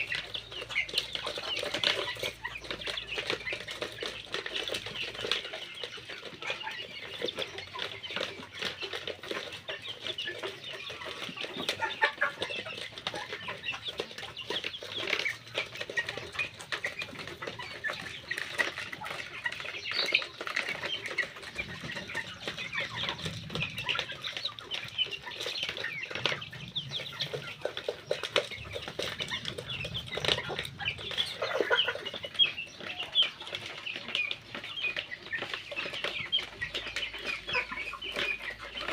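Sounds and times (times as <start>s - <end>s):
chicks cheeping and clucking: 0.0s - 38.9s.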